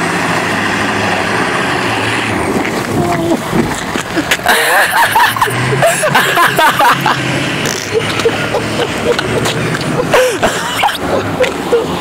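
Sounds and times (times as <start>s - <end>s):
truck engine running hard: 0.0s - 12.0s
tyres spinning on snow: 0.0s - 12.0s.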